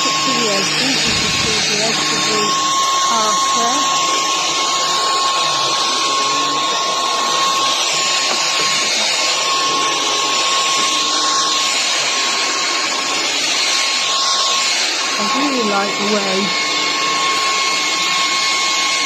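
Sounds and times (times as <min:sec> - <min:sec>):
cordless vacuum running: 0:00.0 - 0:19.0.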